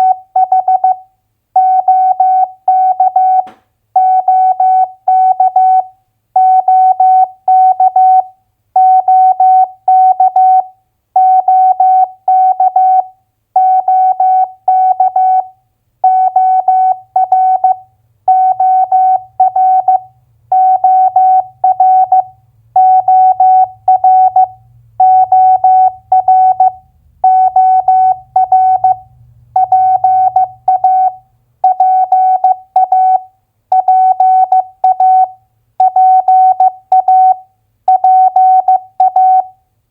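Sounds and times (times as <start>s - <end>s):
morse code tone: 0.0s - 1.0s, 1.6s - 39.6s.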